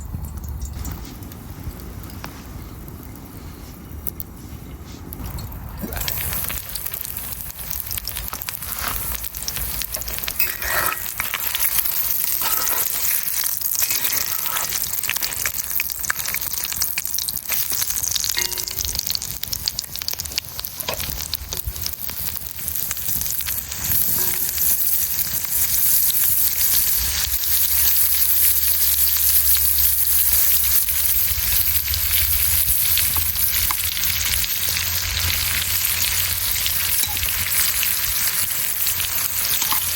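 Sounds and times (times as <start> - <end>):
food sizzling in a pan: 5.8 - 39.9.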